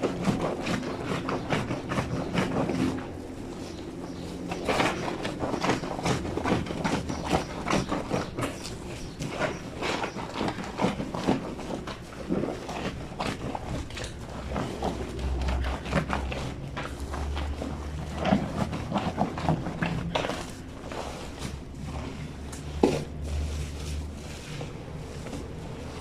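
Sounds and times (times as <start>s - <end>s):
wet blanket scrubbed on washboard: 0.0s - 26.0s.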